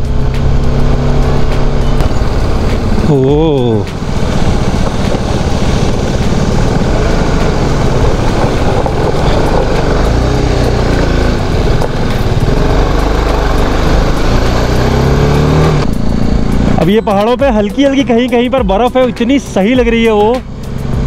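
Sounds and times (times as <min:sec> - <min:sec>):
motorcycle engine droning: 0:00.0 - 0:21.0.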